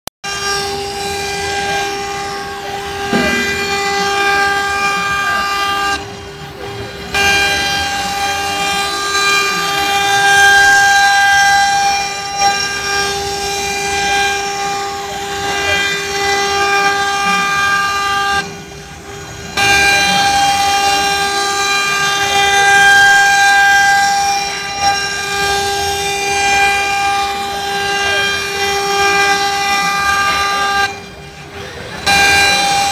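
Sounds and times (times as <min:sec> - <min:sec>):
cnc router spindles whining: 0:00.2 - 0:32.9.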